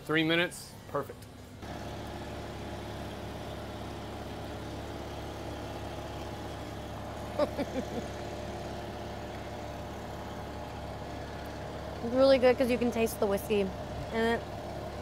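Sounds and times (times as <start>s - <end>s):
engine idling hum: 0.0s - 15.0s.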